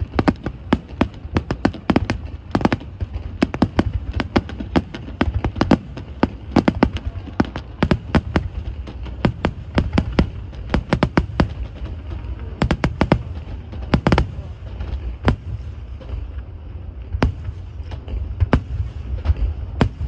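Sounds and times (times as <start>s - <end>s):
fireworks bangs: 0.0s - 20.0s
low rumble: 0.0s - 20.0s.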